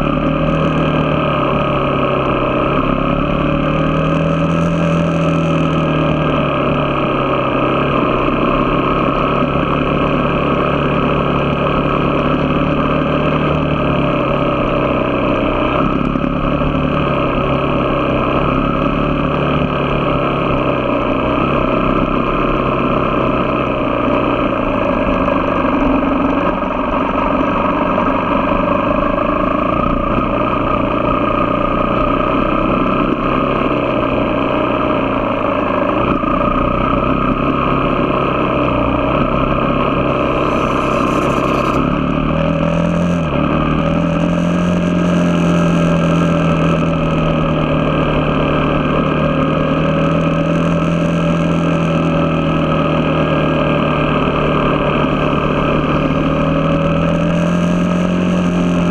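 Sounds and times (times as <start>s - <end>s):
road noise: 0.0s - 58.9s
vehicle engine hum: 0.0s - 58.9s.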